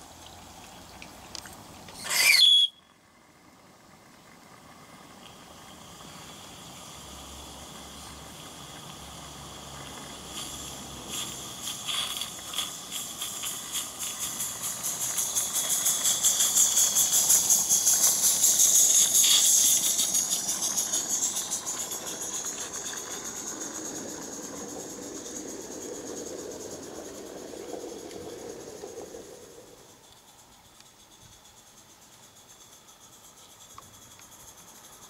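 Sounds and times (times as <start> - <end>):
steam hiss: 1.9 - 2.7, 3.8 - 35.0
model steam locomotive chuffing: 2.2 - 35.0.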